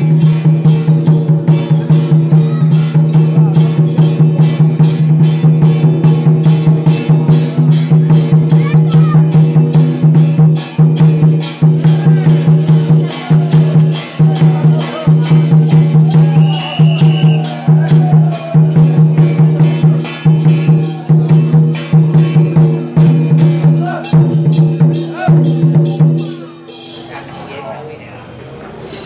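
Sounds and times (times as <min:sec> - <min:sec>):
loud percussion troupe playing: 0:00.0 - 0:28.1.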